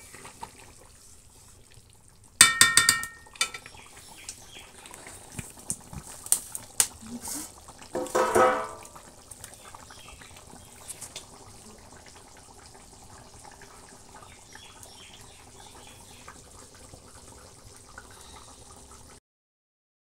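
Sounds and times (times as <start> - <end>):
curry bubbling in a pot: 0.0 - 19.2.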